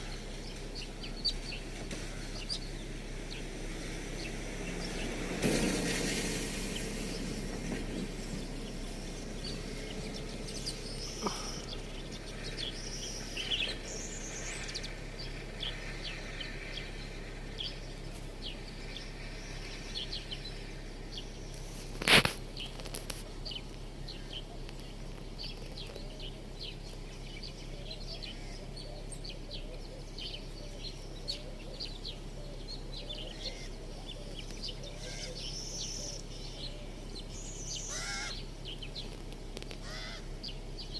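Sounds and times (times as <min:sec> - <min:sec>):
small birds chirping: 0:00.0 - 0:40.9
steady low hum: 0:00.0 - 0:40.9.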